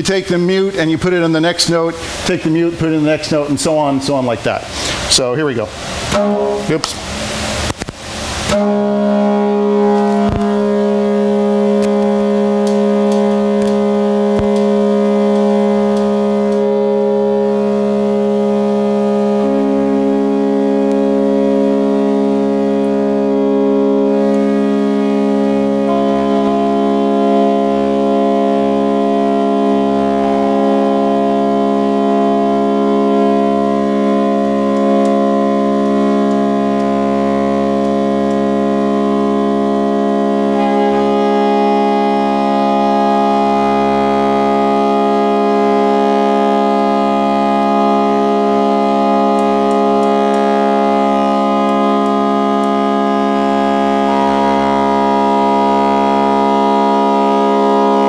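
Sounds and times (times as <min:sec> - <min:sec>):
pipe organ held chord: 0:00.0 - 0:58.0.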